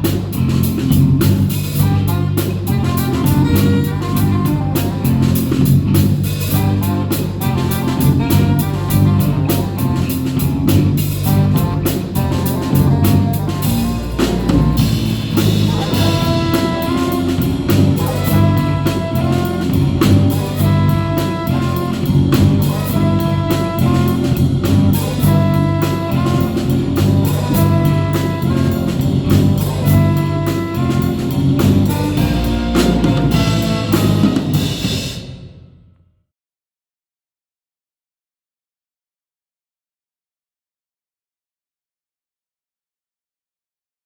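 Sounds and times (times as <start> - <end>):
jazz band brass and saxophones: 0.0 - 35.4
drum kit steady beat: 0.0 - 35.6.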